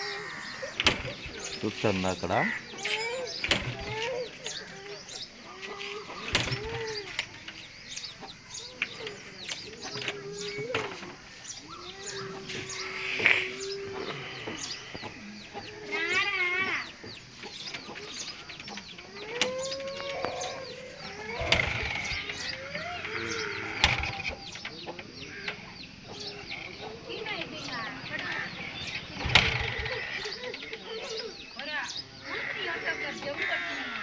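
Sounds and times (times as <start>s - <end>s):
chickens clucking: 0.0s - 34.0s
small birds chirping: 0.0s - 34.0s.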